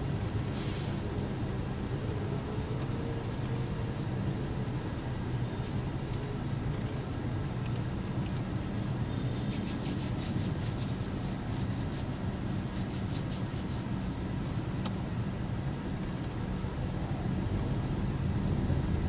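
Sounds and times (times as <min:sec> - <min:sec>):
idling traffic rumble: 0:00.0 - 0:19.0.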